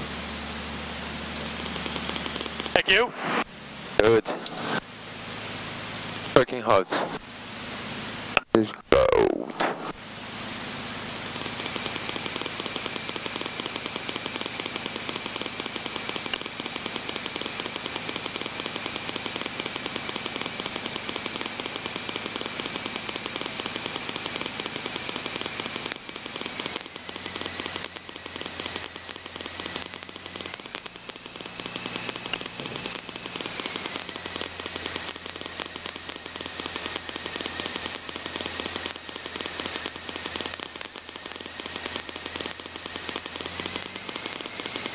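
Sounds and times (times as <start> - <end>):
propeller plane engine drone: 0.0 - 44.9.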